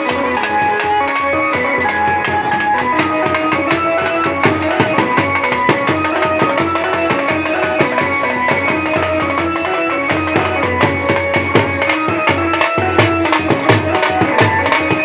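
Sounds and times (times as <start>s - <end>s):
drum beaten in steady rhythm: 0.0s - 15.0s
electronic keyboard melody: 0.0s - 15.0s.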